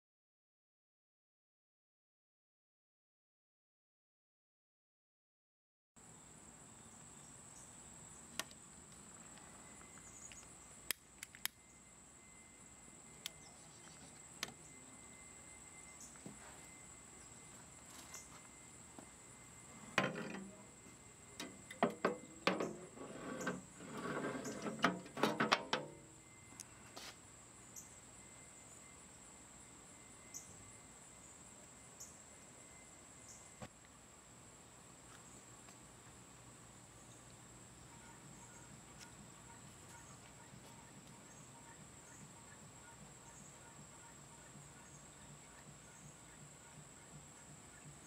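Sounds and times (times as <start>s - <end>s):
high insect drone: 6.0s - 48.0s.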